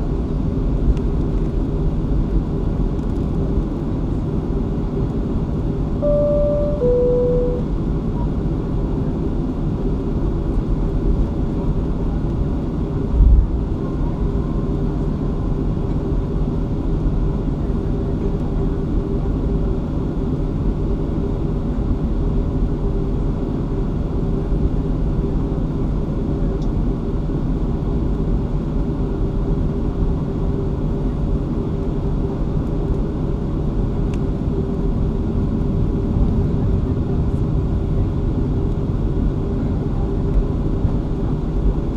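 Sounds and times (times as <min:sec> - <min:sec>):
jet engines humming at idle: 0:00.0 - 0:41.9
low rumble of rolling aircraft: 0:00.0 - 0:41.9.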